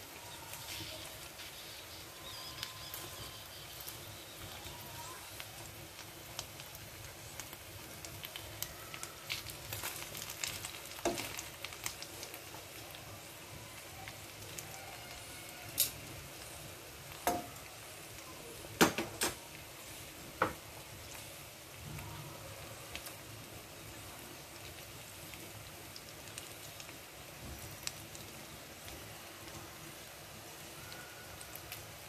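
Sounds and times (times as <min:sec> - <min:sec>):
chicken sizzling in oil: 0:00.0 - 0:32.0.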